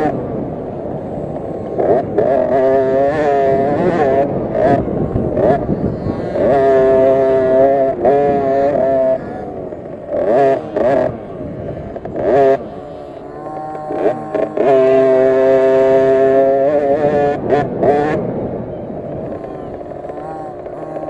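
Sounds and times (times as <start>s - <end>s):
two-stroke minibike engine revving: 0.0s - 21.0s.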